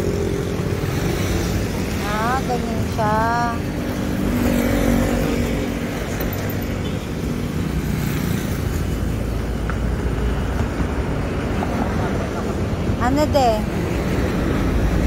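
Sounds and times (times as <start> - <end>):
road noise rumble: 0.0 - 15.0.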